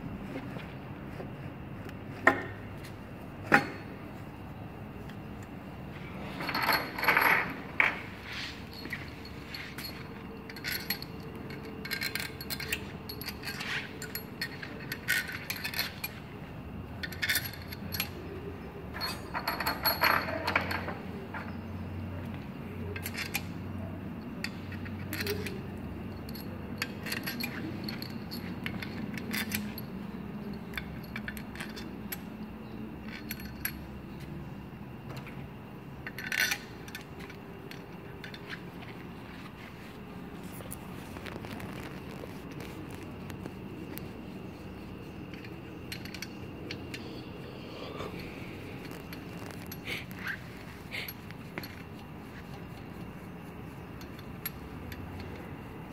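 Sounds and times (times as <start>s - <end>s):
metal engine parts clinking: 6.2s - 16.3s, 16.9s - 34.3s, 36.0s - 47.6s, 48.2s - 55.9s.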